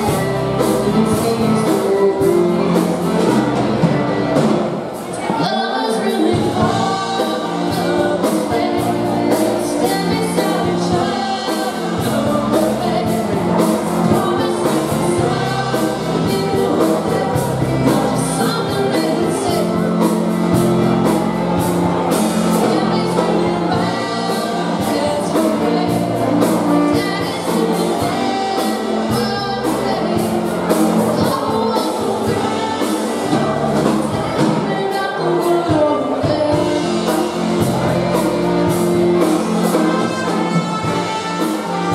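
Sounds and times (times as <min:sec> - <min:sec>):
accordion: 0:00.0 - 0:41.9
drum kit: 0:00.0 - 0:41.9
person singing: 0:00.0 - 0:41.9
saxophone: 0:06.6 - 0:41.9.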